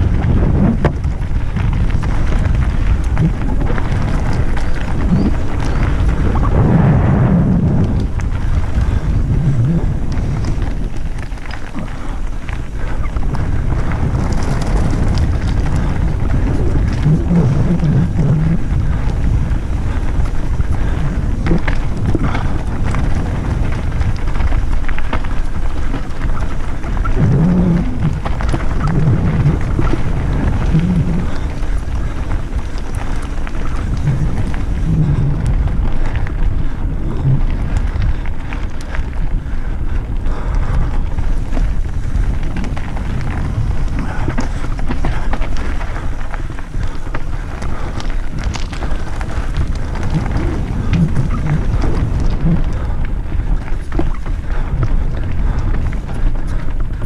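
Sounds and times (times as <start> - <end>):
bike clicks and rattles: 0.0 - 57.0
tyres crunching over gravel: 0.0 - 57.0
wind rumble on microphone: 0.0 - 57.0.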